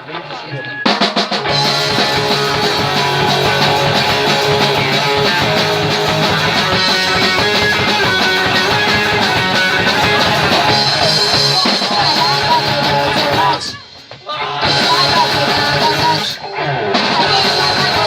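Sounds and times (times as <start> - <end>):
punk rock band playing live: 0.8 - 18.0.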